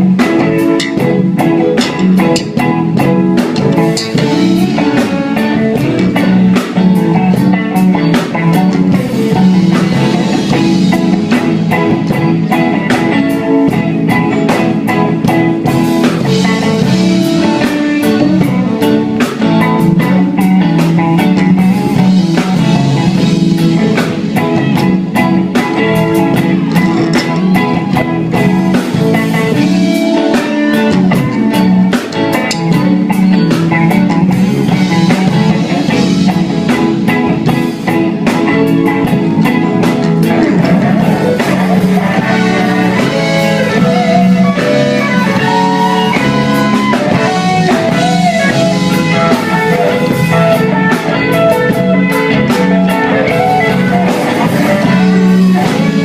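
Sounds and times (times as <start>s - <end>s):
drum kit: 0.0s - 56.0s
guitar: 0.0s - 56.0s
live band playing: 0.0s - 56.0s.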